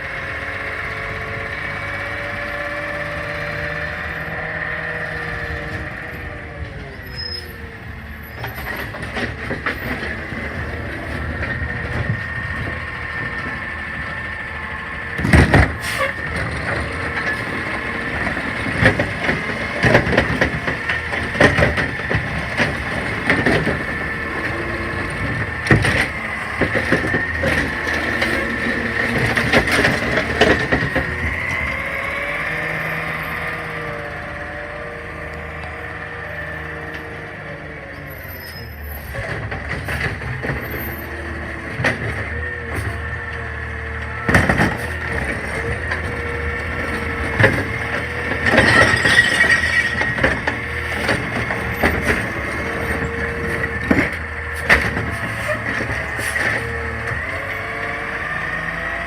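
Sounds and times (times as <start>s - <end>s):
garbage truck whine: 0.0s - 59.0s.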